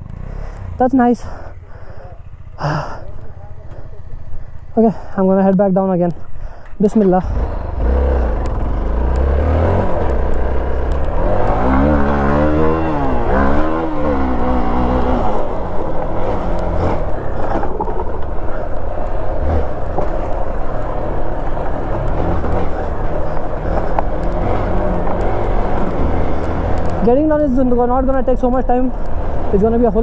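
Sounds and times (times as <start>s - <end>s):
motorcycle engine revving: 0.0s - 5.2s, 6.2s - 30.0s.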